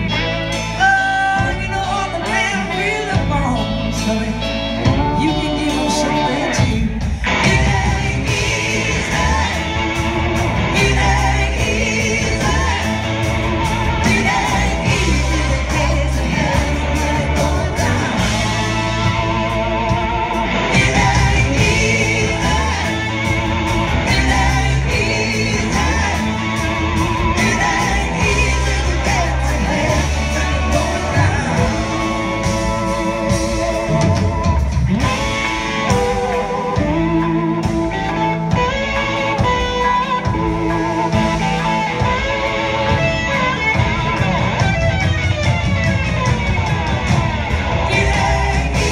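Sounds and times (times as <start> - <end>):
people singing: 0.0 - 44.6, 46.3 - 48.9
live rock band playing: 0.0 - 48.9.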